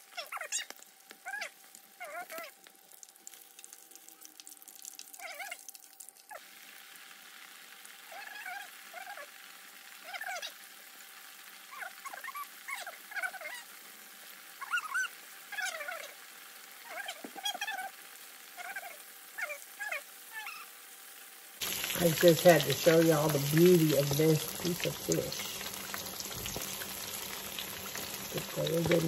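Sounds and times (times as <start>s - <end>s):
oil sizzling with frying fish: 0.0s - 29.0s.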